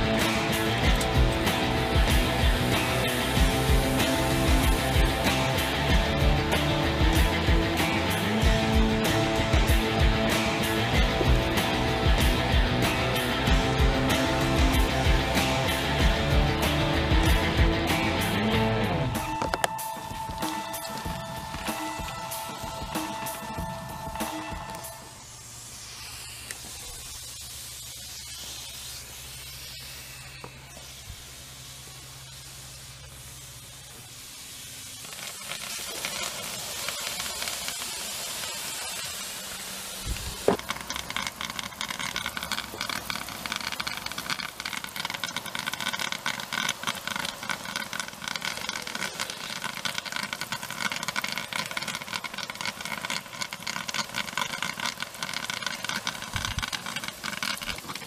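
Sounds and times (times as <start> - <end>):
hose nozzle spraying water: 0.0 - 18.3, 19.1 - 58.0
chemical reaction hissing: 0.0 - 58.0.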